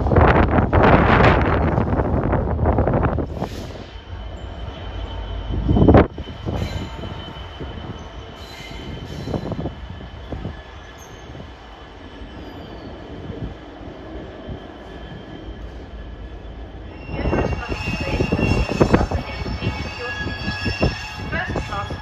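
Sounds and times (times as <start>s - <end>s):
high wheel squeal: 3.4s - 22.0s.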